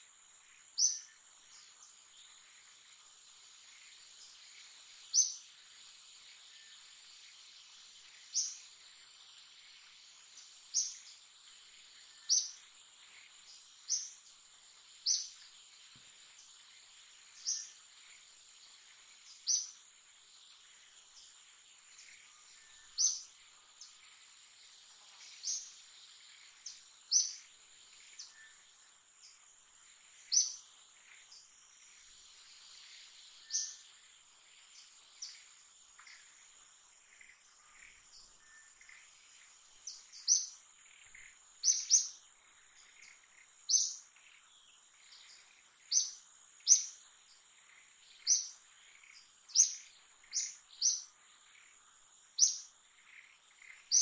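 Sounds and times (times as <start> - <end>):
bird chirping: 0.4 - 54.0.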